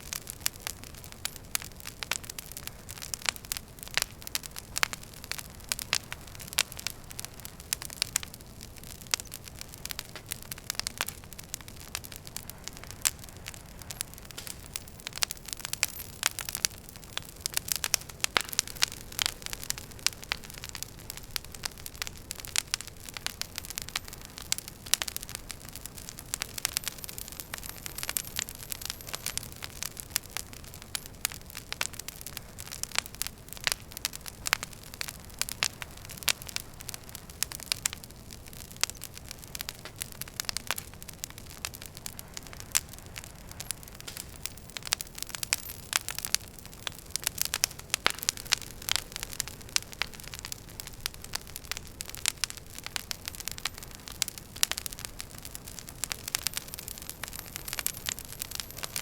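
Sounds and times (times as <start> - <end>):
low hiss and rumble of fire: 0.0 - 59.0
wood fire crackling and popping: 0.0 - 59.0.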